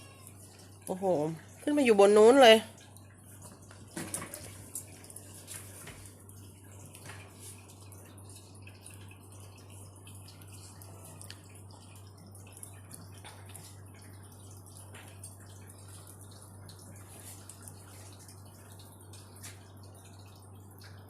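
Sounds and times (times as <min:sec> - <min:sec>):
faint clicks and ticks: 0:02.6 - 0:21.0.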